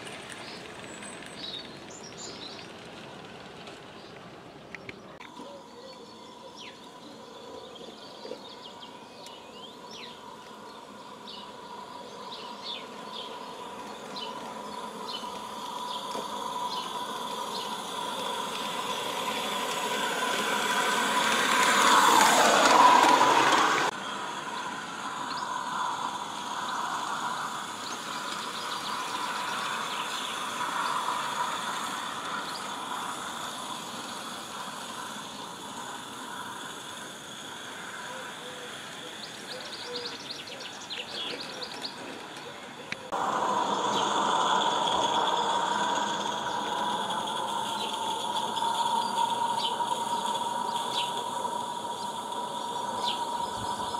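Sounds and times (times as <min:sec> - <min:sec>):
model steam train whine: 0:00.0 - 0:53.9
quiet train running sound: 0:00.0 - 0:53.9.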